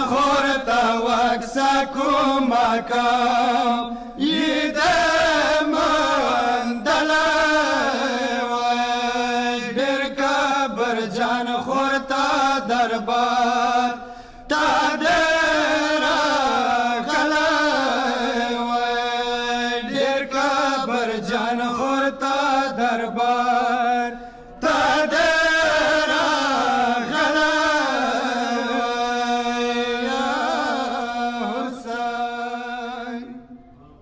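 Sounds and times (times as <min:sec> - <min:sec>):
men chanting a lament: 0:00.0 - 0:33.6.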